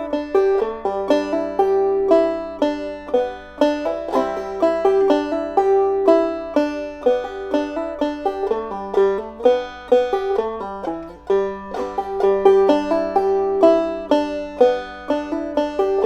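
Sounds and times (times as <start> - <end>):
banjo plucked melody: 0.0 - 16.0.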